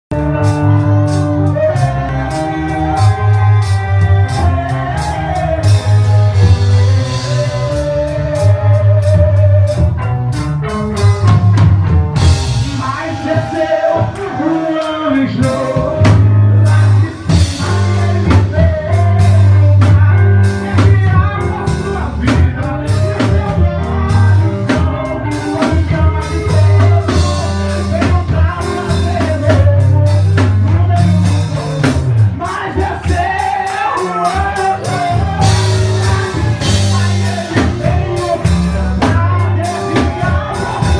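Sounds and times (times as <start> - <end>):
gospel band playing: 0.0 - 40.9
person singing: 0.1 - 11.5, 12.2 - 40.9.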